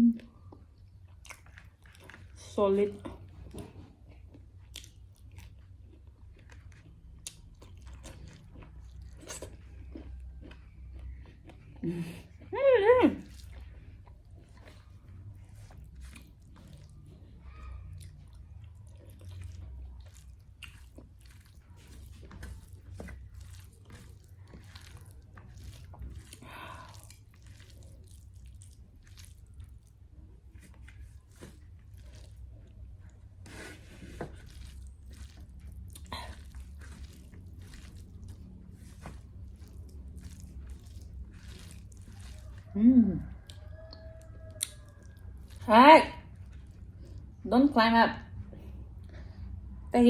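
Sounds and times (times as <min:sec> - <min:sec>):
low steady hum: 0:00.0 - 0:50.0
chewing and biting: 0:00.3 - 0:12.5, 0:13.2 - 0:47.4.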